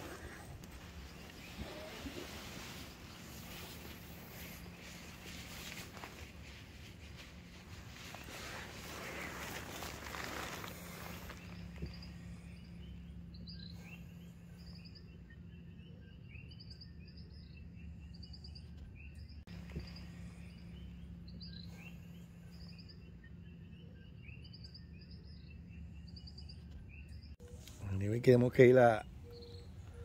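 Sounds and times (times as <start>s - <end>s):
steady low hum: 0.0s - 28.1s.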